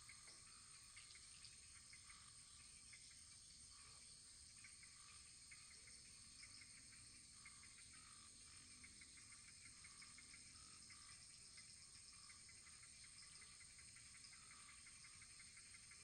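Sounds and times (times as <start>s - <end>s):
insect chirring: 0.0s - 16.0s.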